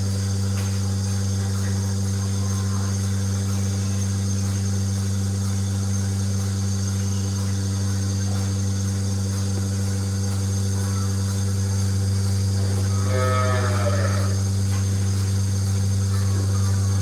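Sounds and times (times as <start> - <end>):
milking machine motor humming: 0.0 - 17.0.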